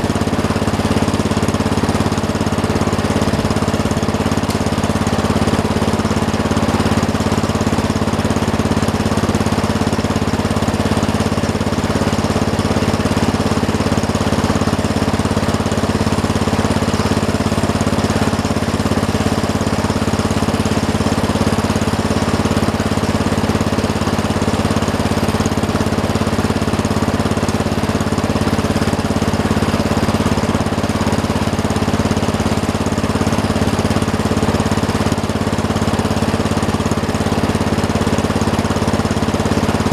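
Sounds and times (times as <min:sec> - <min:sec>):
snow plow engine running: 0:00.0 - 0:39.9.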